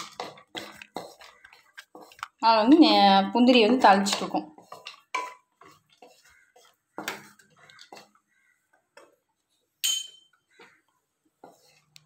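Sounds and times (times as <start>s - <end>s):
frying in oil: 0.0s - 9.8s
wooden spatula scraping pan: 0.0s - 9.8s, 10.4s - 12.0s.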